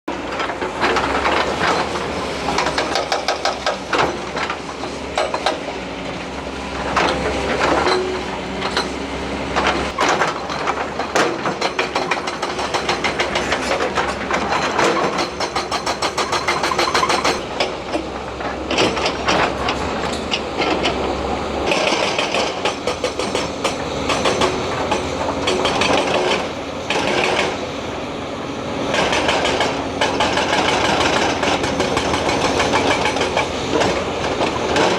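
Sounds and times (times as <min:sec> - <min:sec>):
clanks of steel and rock: 0:00.2 - 0:05.7, 0:06.8 - 0:27.6, 0:28.9 - 0:34.9
diesel engine droning: 0:00.2 - 0:34.9.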